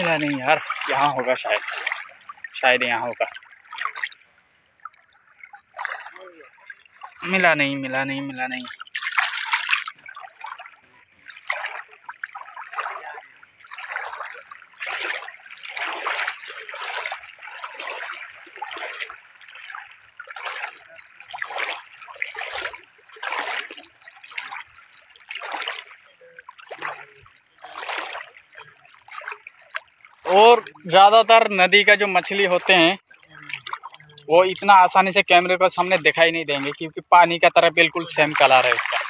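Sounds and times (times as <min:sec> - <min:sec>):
wading through river water: 0:00.0 - 0:39.0.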